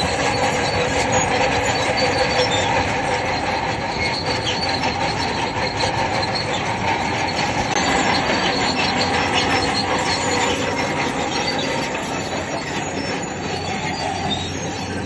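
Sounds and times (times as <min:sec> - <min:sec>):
bulldozer diesel engine: 0:00.0 - 0:15.0
crawler tracks squealing and clanking: 0:00.0 - 0:15.0.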